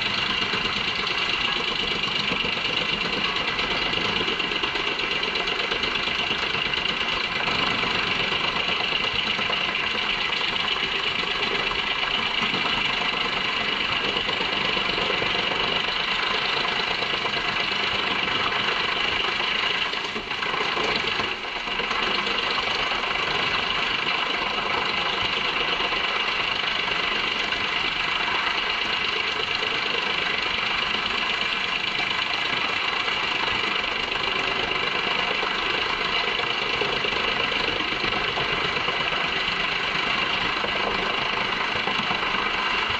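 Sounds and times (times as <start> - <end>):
drum chipper chipping wood: 0.0 - 42.9.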